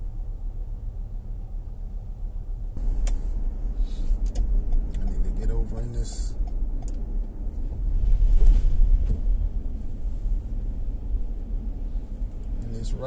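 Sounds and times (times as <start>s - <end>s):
car cabin road rumble: 0.0s - 13.0s.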